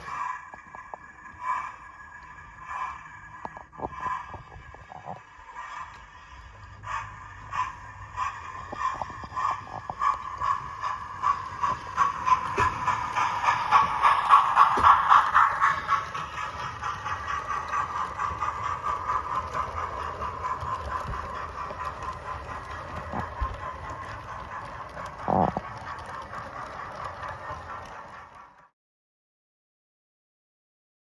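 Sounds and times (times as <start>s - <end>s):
wheels clicking over rail joints: 0.0s - 28.7s.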